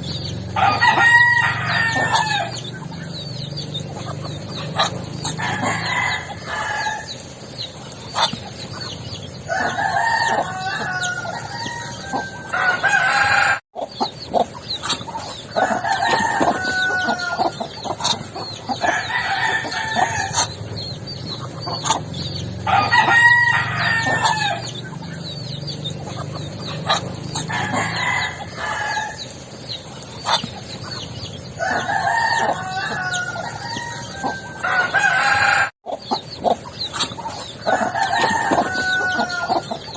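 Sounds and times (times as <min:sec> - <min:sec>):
chickens clucking: 0:00.0 - 0:39.9
roosters crowing: 0:00.0 - 0:39.9.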